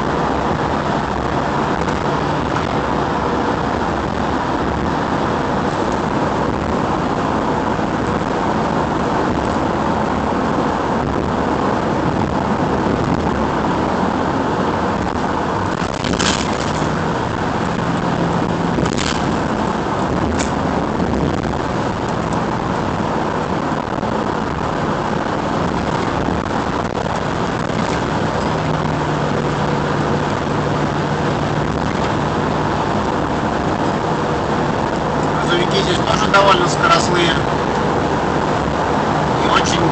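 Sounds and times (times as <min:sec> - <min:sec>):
low engine hum: 0:00.0 - 0:39.9
tyre and wind noise: 0:00.0 - 0:39.9.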